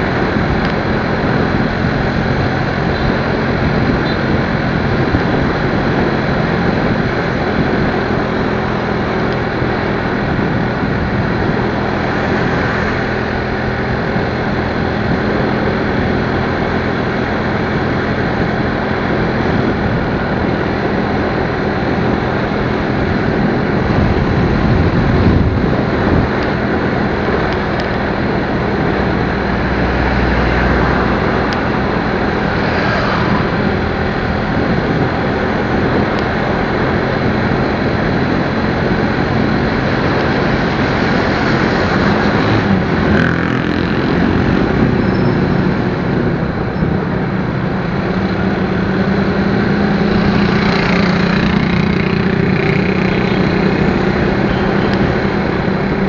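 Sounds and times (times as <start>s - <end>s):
motorcycle engine hum: 0.0s - 56.0s
wind and road noise: 0.0s - 56.0s.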